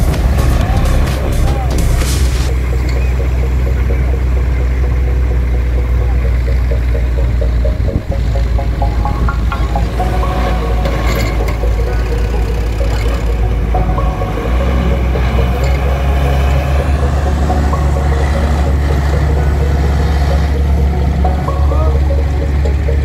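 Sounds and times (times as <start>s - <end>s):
tractor engine rumbling: 0.0s - 23.0s.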